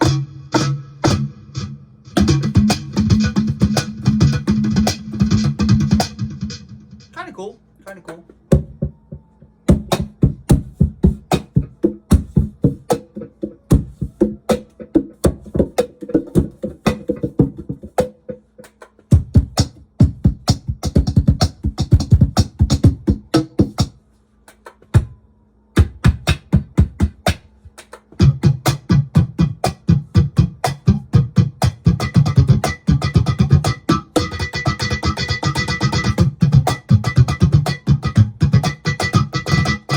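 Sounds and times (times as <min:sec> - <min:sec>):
effected hand drum beat: 0:02.2 - 0:06.5, 0:08.4 - 0:24.0, 0:25.8 - 0:39.9.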